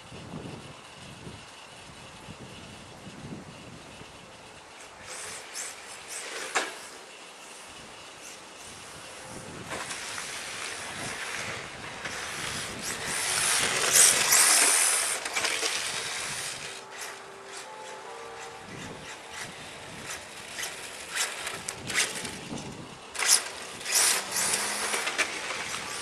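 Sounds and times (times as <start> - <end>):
toy car motor and tyres on asphalt: 0.0 - 26.0.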